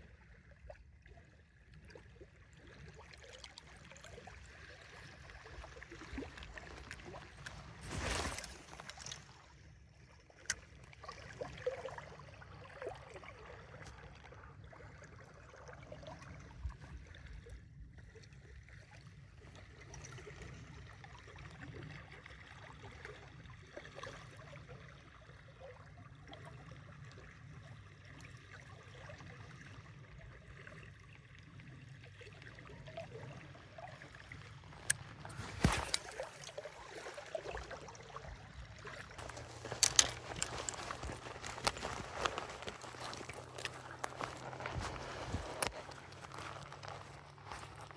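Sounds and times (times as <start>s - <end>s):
water lapping and trickling: 0.0s - 47.9s.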